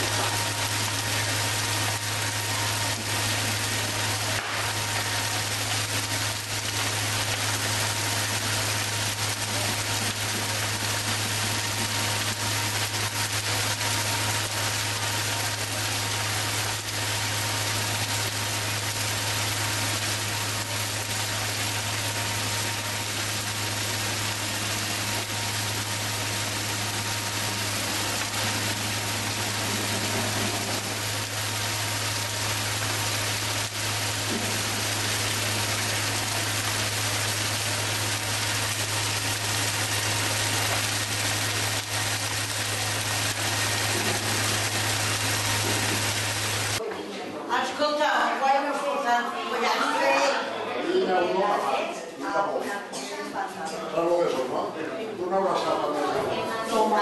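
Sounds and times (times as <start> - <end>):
bonfire hissing and crackling: 0.0 - 46.8.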